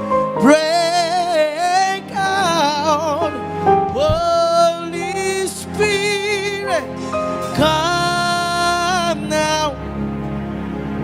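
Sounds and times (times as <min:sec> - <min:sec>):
gospel worship singing: 0:00.0 - 0:10.4.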